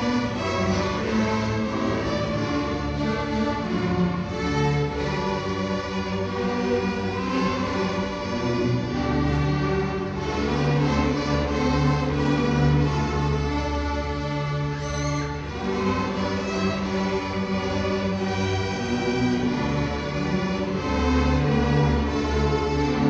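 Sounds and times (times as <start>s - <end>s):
string orchestra playing: 0.0s - 23.0s.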